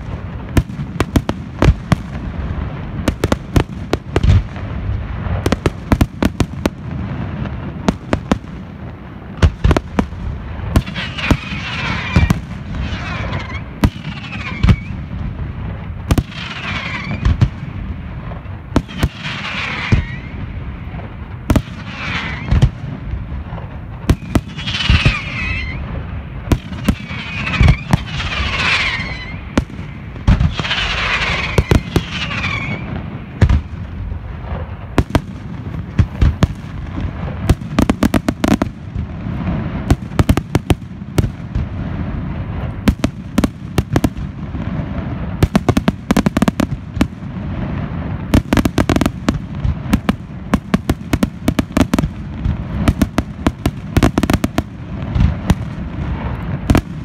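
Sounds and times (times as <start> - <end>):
falling whistling fireworks: 0.0 - 57.0
fireworks bangs: 0.0 - 57.0.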